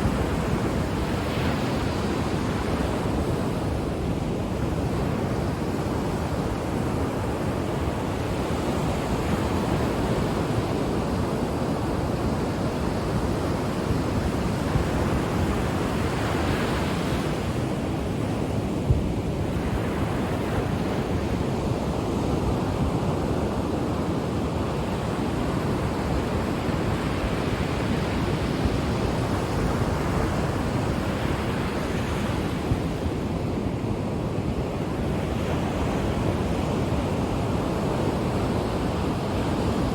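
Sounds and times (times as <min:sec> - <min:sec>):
ocean waves breaking on shore: 0:00.0 - 0:39.9
wind rumble on microphone: 0:00.0 - 0:39.9.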